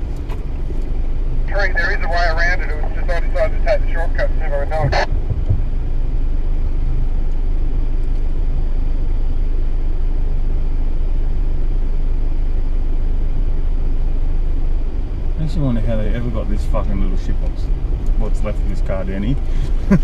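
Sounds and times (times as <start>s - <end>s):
vehicle engine rumble inside cab: 0.0s - 20.0s.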